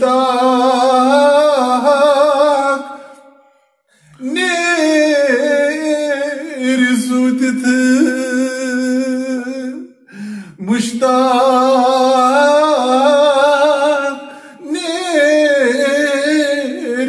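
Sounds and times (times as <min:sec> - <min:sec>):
man singing unaccompanied: 0:00.0 - 0:03.4, 0:04.2 - 0:17.0.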